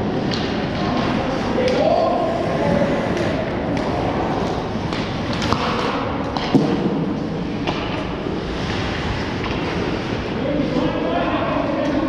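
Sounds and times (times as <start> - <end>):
hockey sticks and puck clacking: 0.0 - 12.0
ice rink noise: 0.0 - 12.0.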